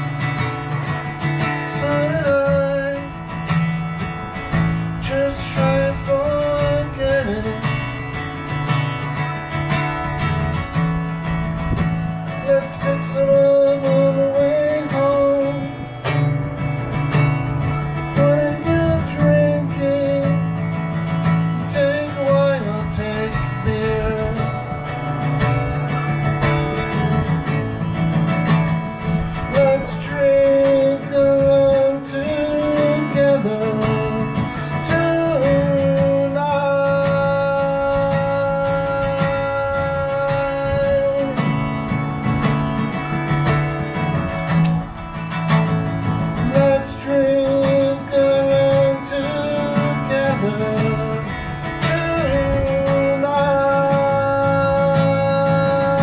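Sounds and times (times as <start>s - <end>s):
solo guitar playing: 0.0s - 56.0s.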